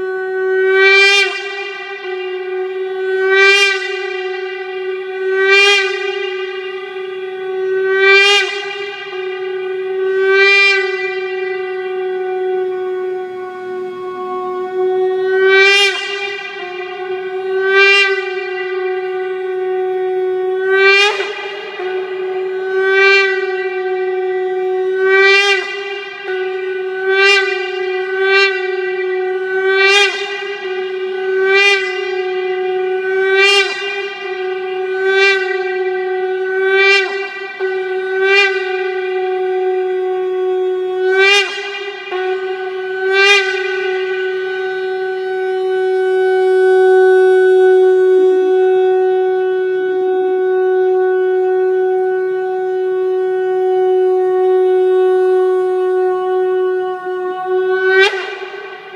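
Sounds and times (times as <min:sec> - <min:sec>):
shofar blasts: 0:00.0 - 0:58.9.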